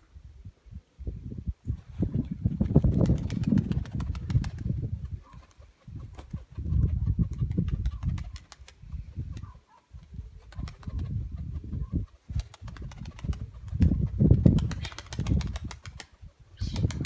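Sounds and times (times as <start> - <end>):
pigeon wings flapping: 2.6 - 17.0.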